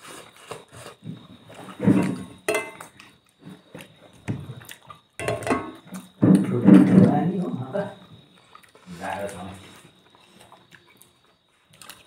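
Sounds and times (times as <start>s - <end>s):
wet chewing and smacking: 0.0s - 6.2s, 8.1s - 12.0s.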